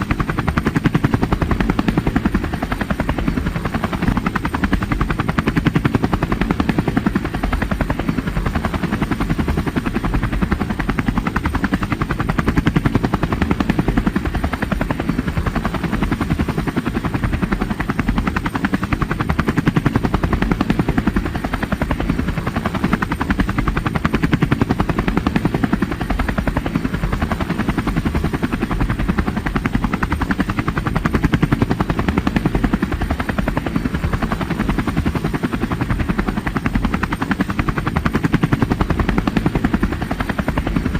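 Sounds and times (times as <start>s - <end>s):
helicopter rotor chopping: 0.0s - 40.9s
helicopter turbine running: 0.0s - 40.9s.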